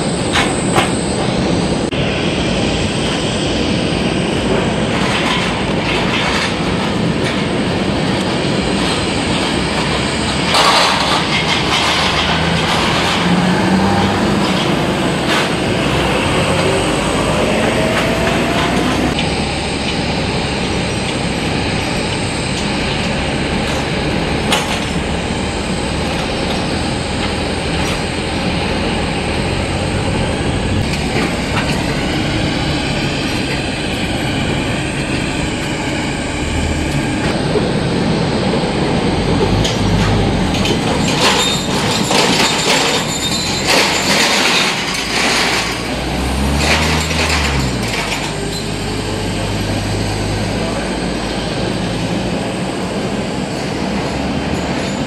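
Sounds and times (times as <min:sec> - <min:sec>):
jet engines rumbling: 0:00.0 - 0:55.0
rising whine: 0:00.0 - 0:55.0
wavering high whine: 0:00.0 - 0:55.0.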